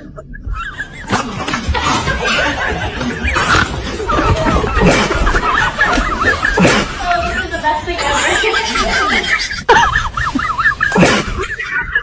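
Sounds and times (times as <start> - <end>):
high-pitched laughing: 0.0 - 12.0.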